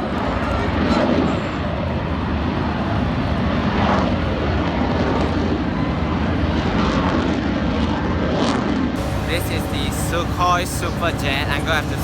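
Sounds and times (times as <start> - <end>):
jet aircraft engine rushing: 0.0 - 12.0.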